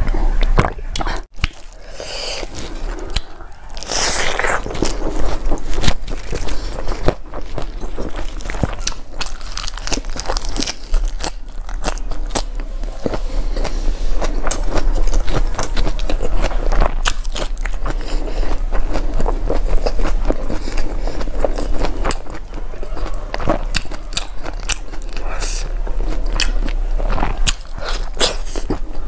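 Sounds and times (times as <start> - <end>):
chewing and crunching food: 0.4 - 29.0.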